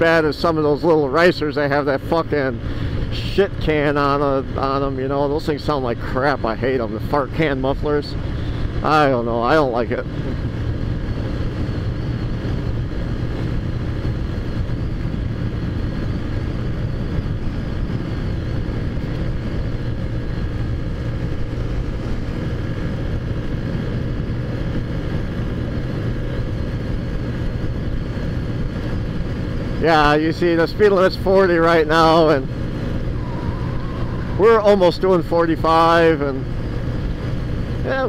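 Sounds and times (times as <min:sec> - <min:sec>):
road and wind noise: 0:00.0 - 0:38.0.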